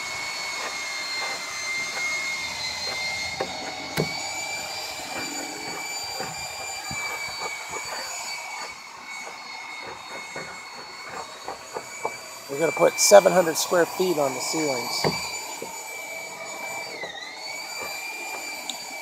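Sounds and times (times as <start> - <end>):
high-pitched machine whine: 0.0 - 19.0.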